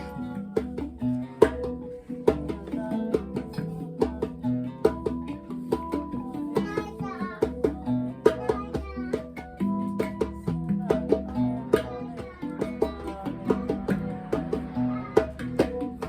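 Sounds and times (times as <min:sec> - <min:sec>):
plucked strings in quick rhythm: 0:00.0 - 0:16.0.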